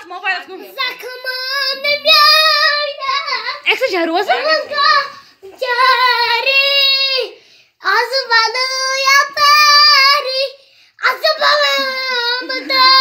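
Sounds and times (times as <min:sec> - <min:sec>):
boy singing unaccompanied: 0:00.5 - 0:13.0.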